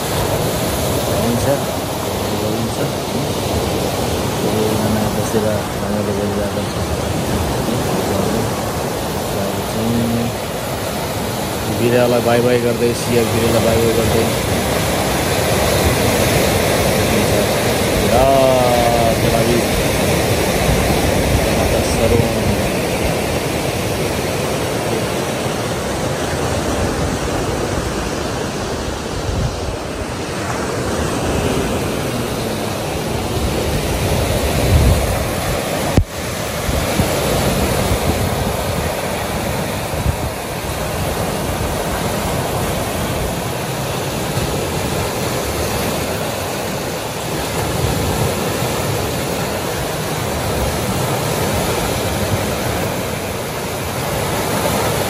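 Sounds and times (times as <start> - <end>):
lake waves breaking on pebble shore: 0.0 - 55.0
wind buffeting microphone: 0.0 - 55.0.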